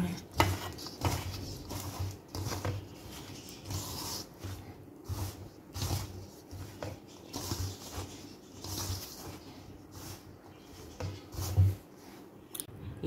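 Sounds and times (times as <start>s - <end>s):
hand rubbing dough rustle: 0.0s - 12.5s.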